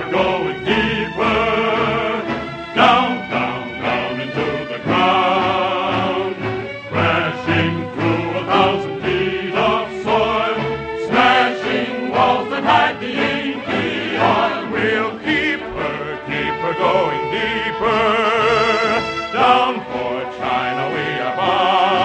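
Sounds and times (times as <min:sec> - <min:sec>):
choir and orchestra performing: 0:00.0 - 0:22.0.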